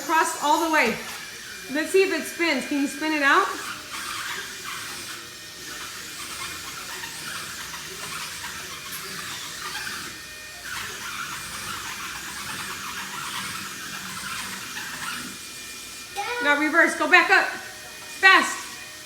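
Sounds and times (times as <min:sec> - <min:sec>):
toy car motors whining: 0:00.0 - 0:19.0.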